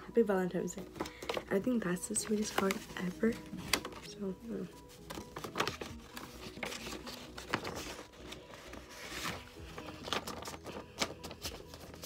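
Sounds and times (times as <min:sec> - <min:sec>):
paper crinkling and rustling: 0:00.8 - 0:12.0.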